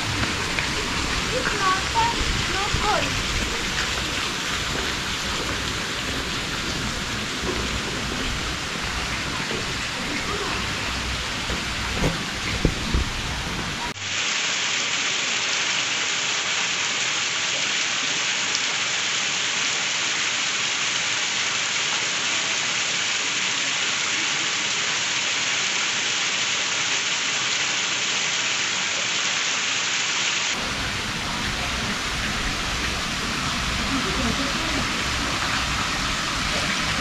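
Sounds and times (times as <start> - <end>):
hiss of falling water: 0.0 - 37.0.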